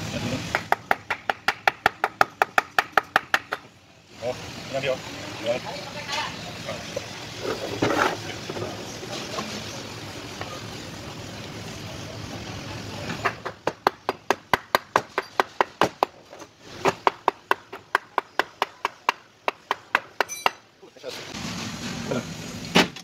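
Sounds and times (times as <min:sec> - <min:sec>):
workshop background noise: 0:00.0 - 0:23.0.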